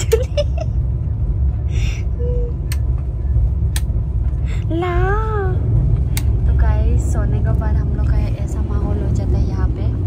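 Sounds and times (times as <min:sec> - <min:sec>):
train coach rumbling: 0:00.0 - 0:10.0.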